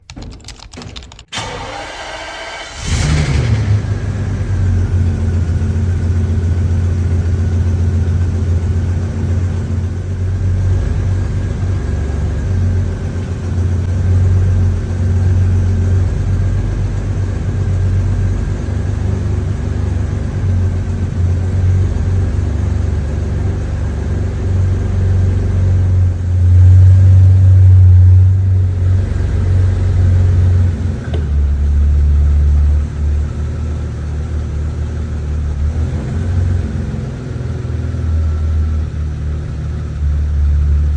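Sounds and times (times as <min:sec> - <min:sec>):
car engine idling: 0:01.3 - 0:40.9.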